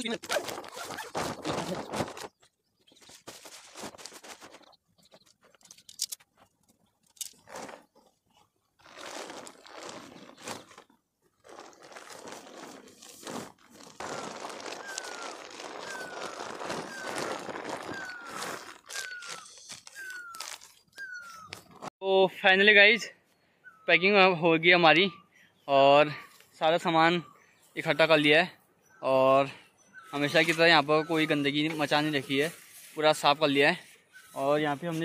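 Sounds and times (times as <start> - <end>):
tent fabric and tarpaulin rustling: 0.0 - 21.9, 27.6 - 35.0.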